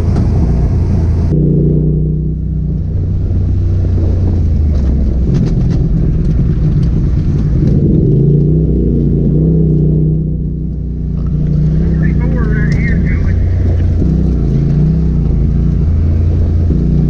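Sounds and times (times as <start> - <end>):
engine revving while driven: 0.0 - 17.0.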